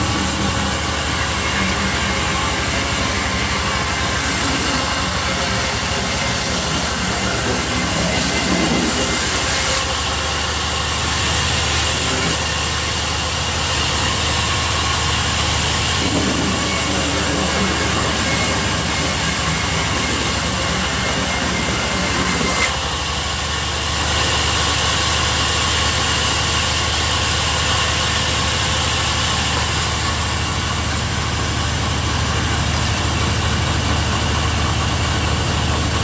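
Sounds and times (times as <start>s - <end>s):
sawmill saw cutting wood: 0.0s - 36.0s.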